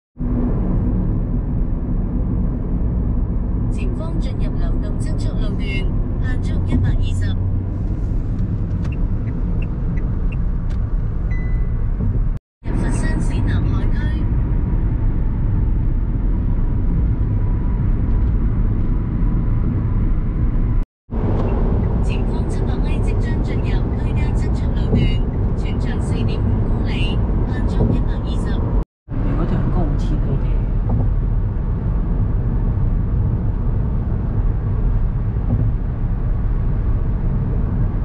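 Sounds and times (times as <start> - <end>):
car road and engine rumble: 0.2 - 38.0.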